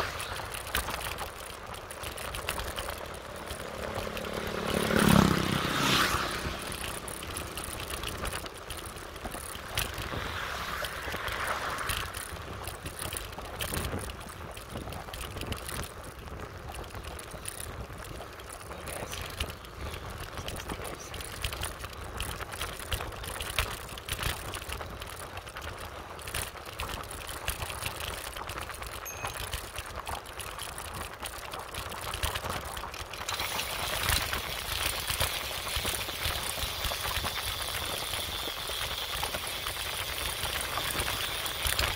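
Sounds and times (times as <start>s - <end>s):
motorbike riding: 0.0s - 41.9s.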